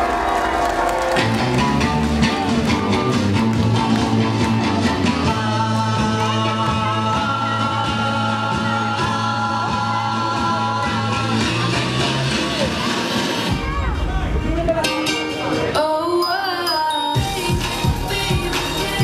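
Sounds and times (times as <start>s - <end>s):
loud music with steady beat: 0.0s - 19.0s.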